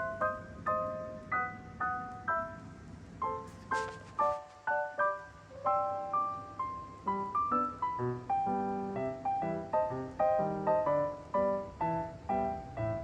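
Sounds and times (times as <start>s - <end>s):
gentle piano tune: 0.0s - 13.0s.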